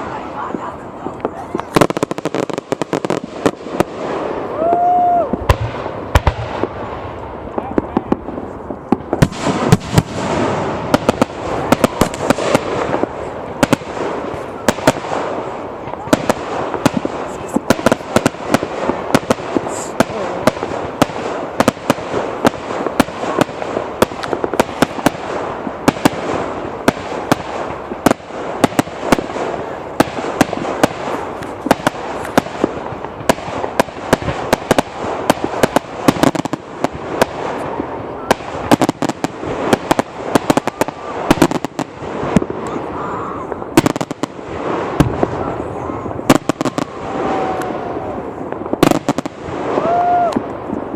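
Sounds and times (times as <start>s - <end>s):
fireworks bangs and pops: 0.0s - 50.9s
fireworks crackling: 0.0s - 50.9s.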